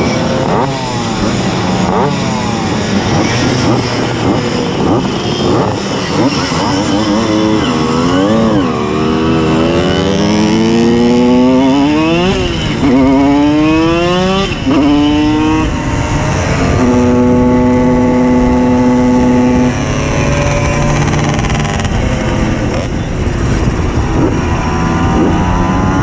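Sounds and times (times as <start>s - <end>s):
moped engine accelerating: 0.0s - 26.0s
other mopeds running: 0.0s - 26.0s.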